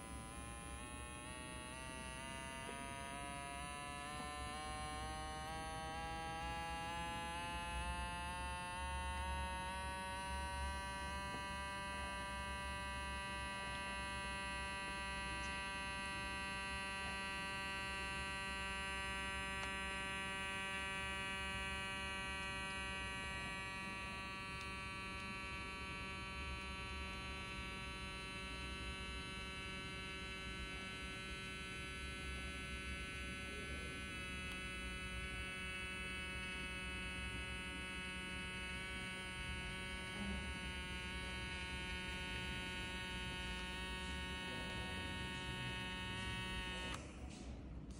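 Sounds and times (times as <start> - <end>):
small air pump whining: 0.0 - 47.5.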